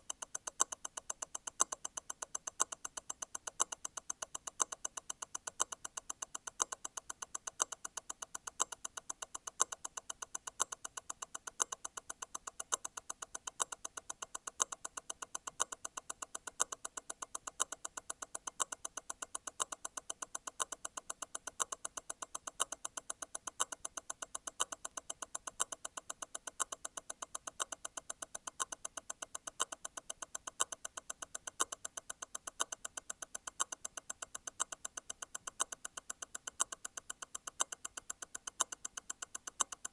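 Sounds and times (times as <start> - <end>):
watch movement ticking: 0.0 - 39.9.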